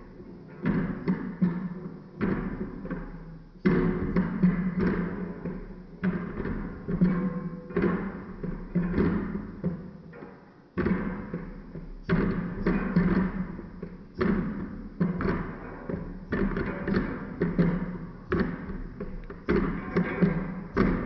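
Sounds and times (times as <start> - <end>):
plucked notes with soft thumps: 0.0 - 21.0.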